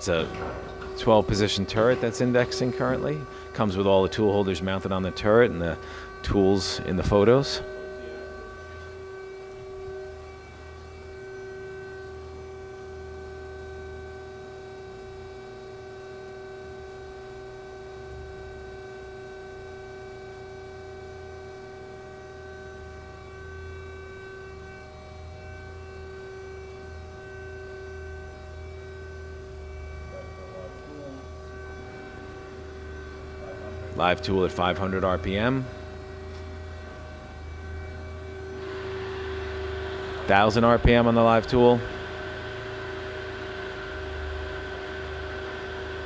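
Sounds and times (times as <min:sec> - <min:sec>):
lathe machine hum: 0:00.0 - 0:46.0.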